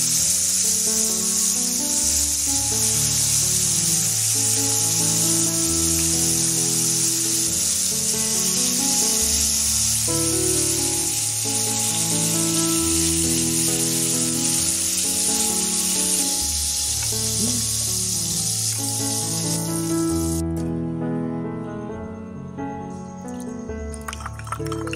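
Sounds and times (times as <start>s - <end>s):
hot oil sizzling in a pan: 0.0s - 20.4s, 24.0s - 24.9s
background music: 0.0s - 24.9s.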